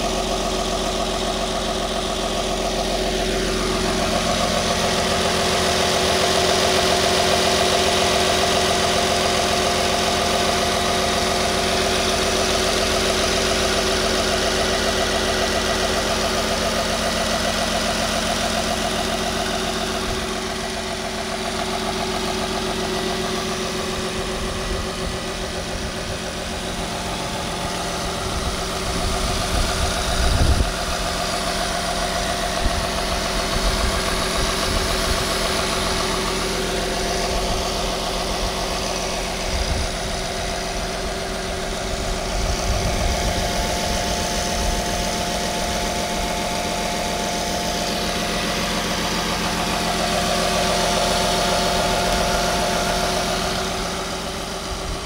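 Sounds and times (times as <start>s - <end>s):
car engine idling: 0.0s - 55.0s
low engine rumbles: 0.0s - 55.0s.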